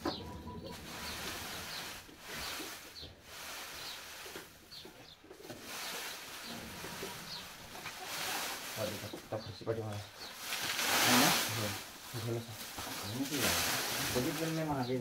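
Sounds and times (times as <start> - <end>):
straw and sticks rustling: 0.0 - 15.0.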